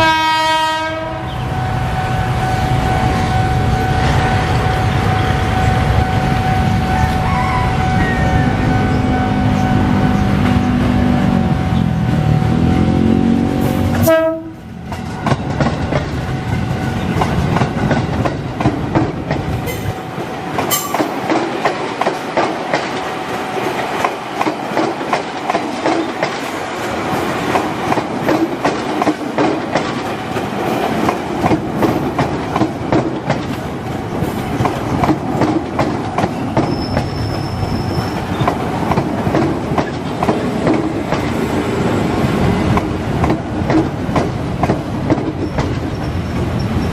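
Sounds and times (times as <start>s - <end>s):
electric train passing: 0.0s - 46.9s.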